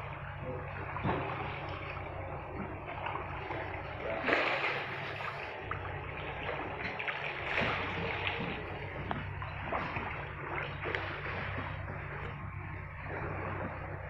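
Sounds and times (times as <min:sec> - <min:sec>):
low engine hum: 0:00.0 - 0:14.0
water splashing against boat: 0:00.0 - 0:14.0.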